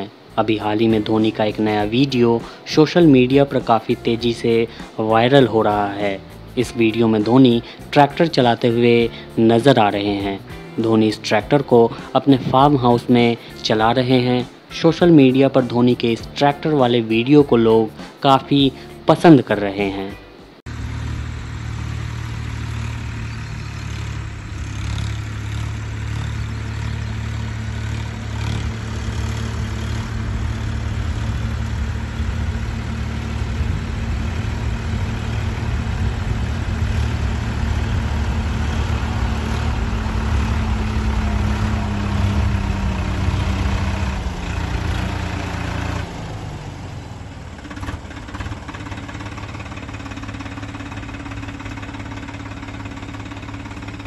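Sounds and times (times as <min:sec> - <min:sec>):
tractor diesel engine running: 0:00.0 - 0:19.0, 0:20.5 - 0:54.0.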